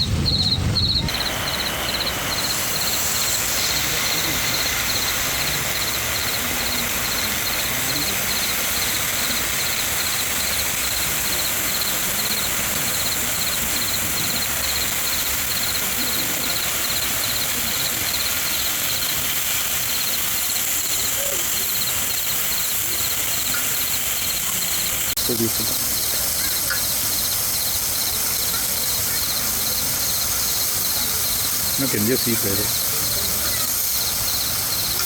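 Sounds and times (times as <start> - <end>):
insects chirping: 0.0 - 35.0
high insect drone: 0.1 - 35.0.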